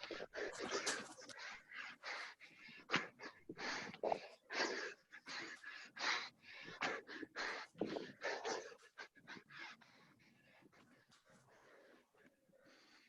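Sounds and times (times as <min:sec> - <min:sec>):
hard rapid breathing: 0:00.0 - 0:13.0.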